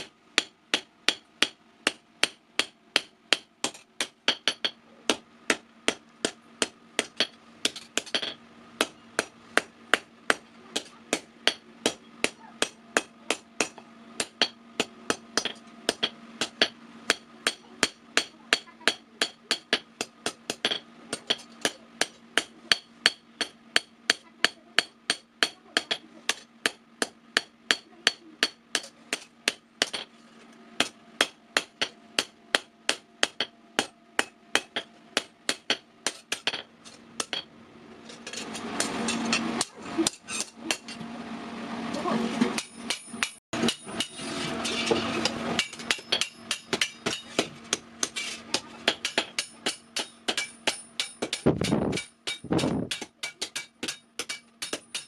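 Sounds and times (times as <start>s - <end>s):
hammer striking steel on anvil: 0.0s - 30.1s, 30.8s - 37.5s, 38.2s - 41.0s, 42.6s - 55.0s
constant low hum: 0.0s - 55.0s.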